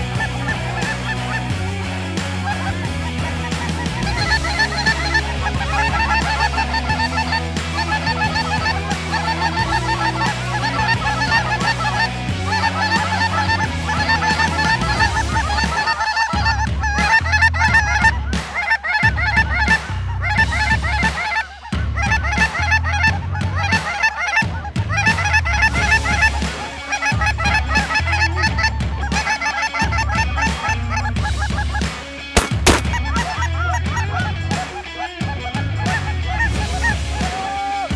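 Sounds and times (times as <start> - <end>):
background music with deep bass: 0.0 - 37.9
geese cackling: 0.0 - 37.9.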